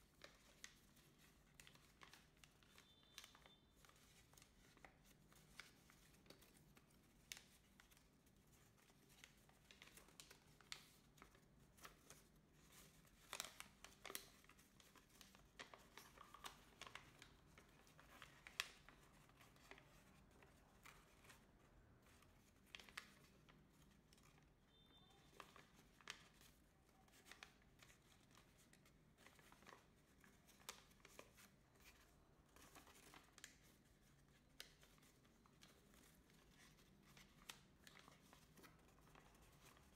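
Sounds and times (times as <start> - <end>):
paper crinkling: 0.0 - 39.9.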